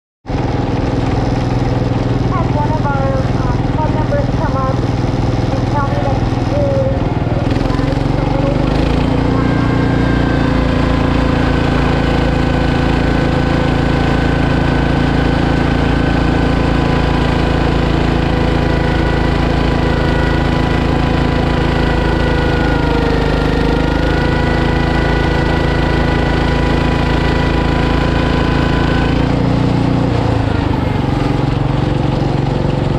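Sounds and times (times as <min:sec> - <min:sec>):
garden tractor engine under load: 0:00.3 - 0:32.9.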